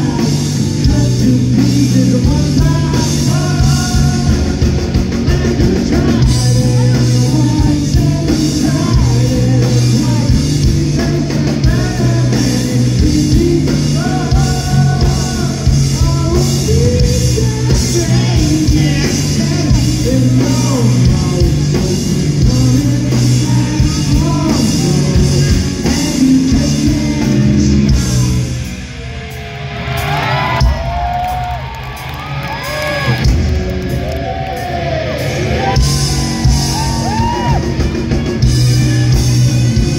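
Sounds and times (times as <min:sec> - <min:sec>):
bass guitar: 0:00.0 - 0:39.9
drums: 0:00.0 - 0:39.9
electric guitars: 0:00.0 - 0:39.9
lead singer: 0:00.0 - 0:39.9.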